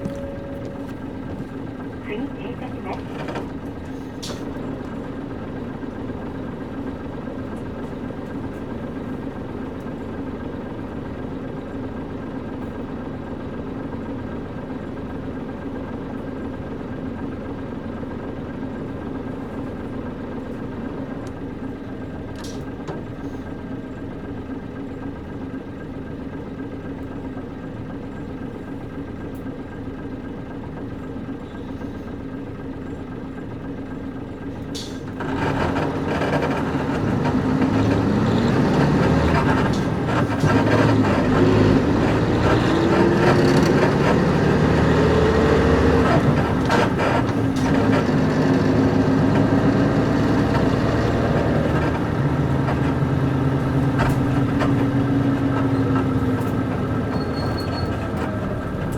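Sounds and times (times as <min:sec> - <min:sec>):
bus diesel engine running: 0:00.0 - 0:58.9.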